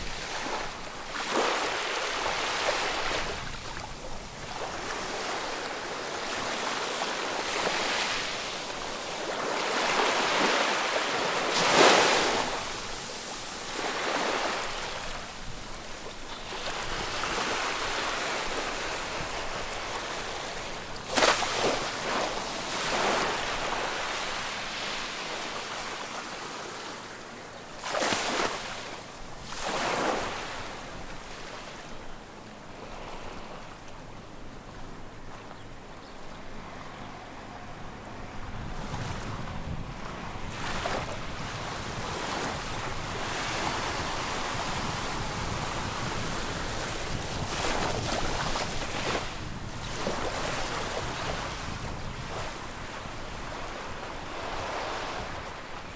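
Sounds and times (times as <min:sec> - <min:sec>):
small waves breaking on shore: 0:00.0 - 0:55.9.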